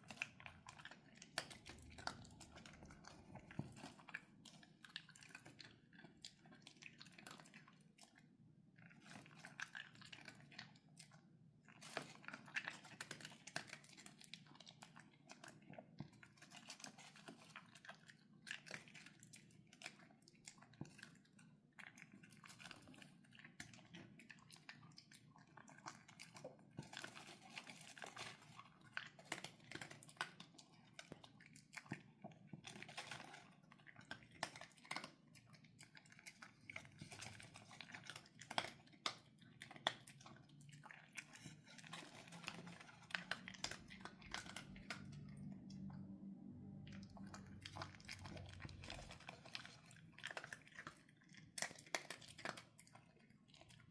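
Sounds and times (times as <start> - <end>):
pet crunching dry kibble: 0.0 - 53.9.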